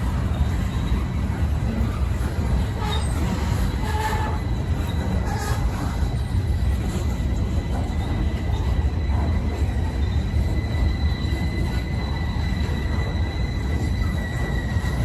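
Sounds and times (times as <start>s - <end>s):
high squeal from wheels: 0.0s - 15.0s
train cars rumbling past: 0.0s - 15.0s.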